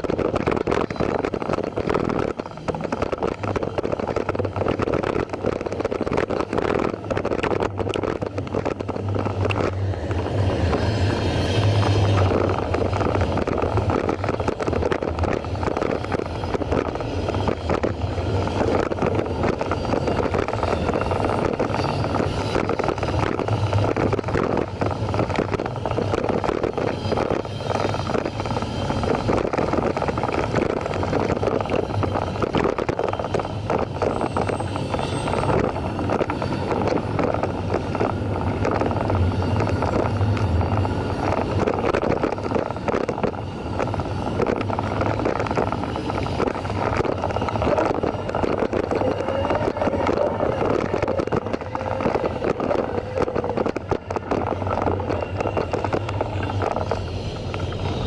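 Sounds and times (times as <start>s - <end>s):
camera rattling: 0.0s - 58.0s
freight train rumbling: 0.0s - 58.0s
wind on microphone: 0.0s - 58.0s.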